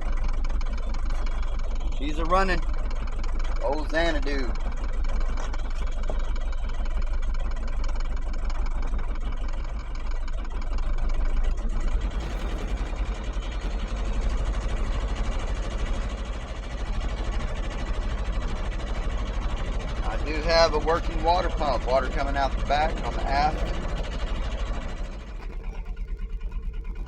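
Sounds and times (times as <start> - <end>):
boat diesel engine idling: 0.0 - 27.0.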